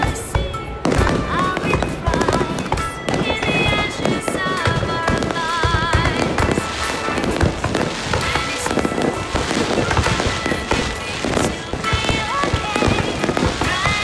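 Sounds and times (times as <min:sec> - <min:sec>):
fireworks banging and crackling: 0:00.0 - 0:14.0
music playing: 0:00.0 - 0:14.0.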